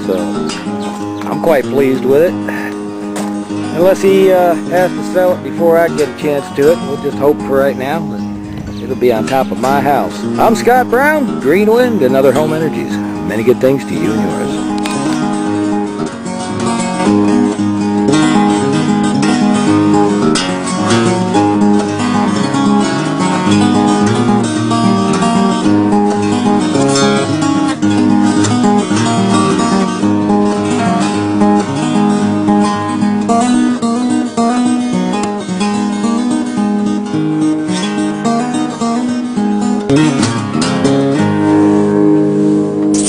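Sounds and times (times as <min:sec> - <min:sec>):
strummed guitar music: 0:00.0 - 0:43.0.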